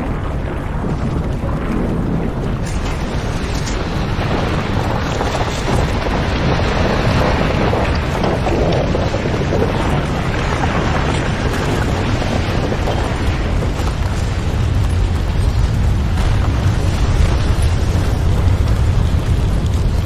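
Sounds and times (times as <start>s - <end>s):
deep earthquake rumble: 0.0s - 20.0s
rough crackling noise: 0.0s - 20.0s.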